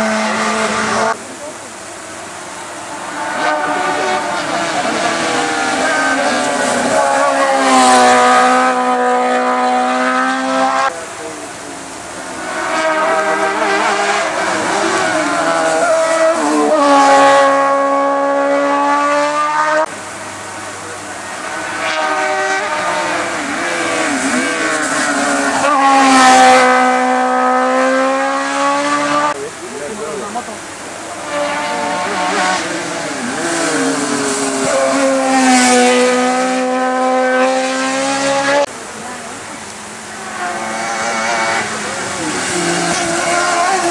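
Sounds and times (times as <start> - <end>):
race car engine at high revs: 0.0 - 43.9
rush of passing car: 0.0 - 43.9.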